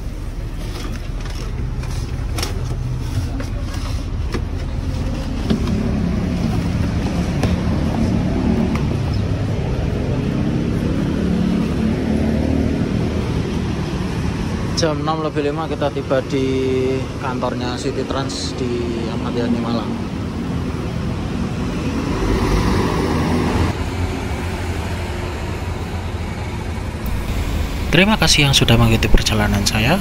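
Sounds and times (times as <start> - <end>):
bus engine running: 0.0 - 30.0
road noise: 0.0 - 30.0.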